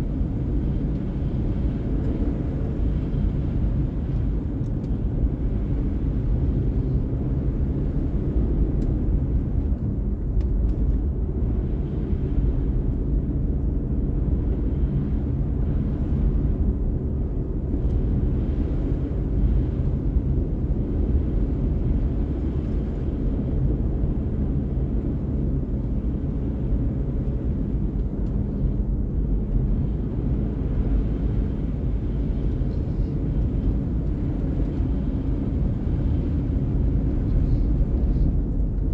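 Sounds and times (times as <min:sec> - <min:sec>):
car engine and tyre road noise: 0:00.0 - 0:38.9.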